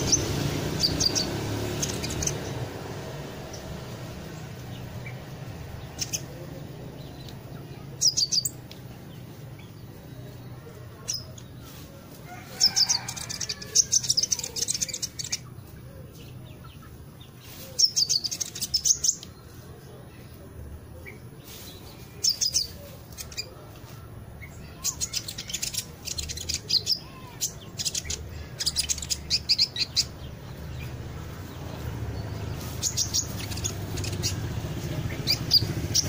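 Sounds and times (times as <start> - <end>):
songbird chirping: 0.0 - 36.0.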